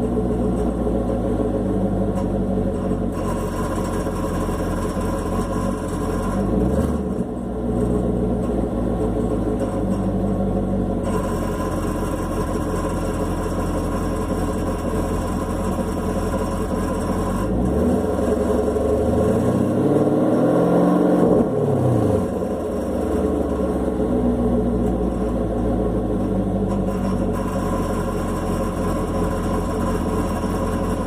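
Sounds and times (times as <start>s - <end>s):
exhaust rattle: 0.0s - 19.8s, 21.2s - 31.0s
car engine idling and revving: 0.0s - 31.0s.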